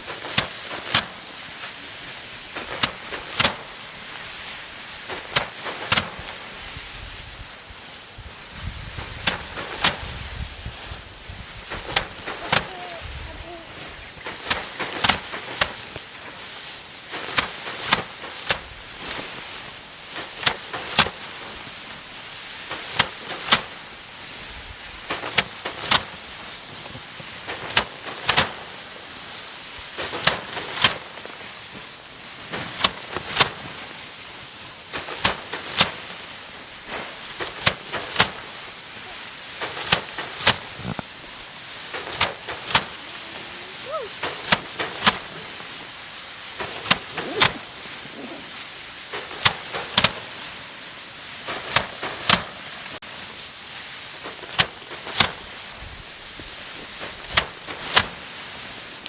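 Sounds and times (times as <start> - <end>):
rice stalks being struck: 0.1 - 6.8, 8.9 - 23.9, 25.0 - 50.8, 51.4 - 53.4, 54.2 - 55.7, 56.9 - 58.2.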